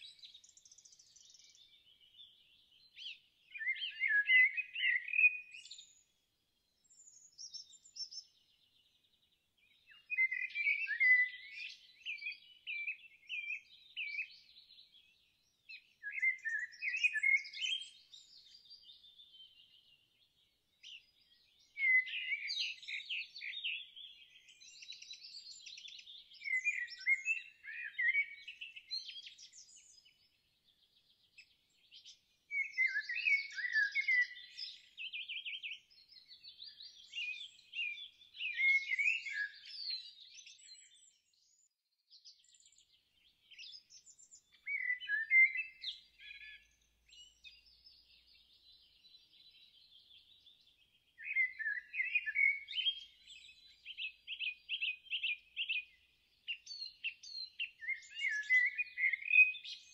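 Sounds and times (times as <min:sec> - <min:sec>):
songbirds warbling and trilling: 0:00.0 - 0:59.9.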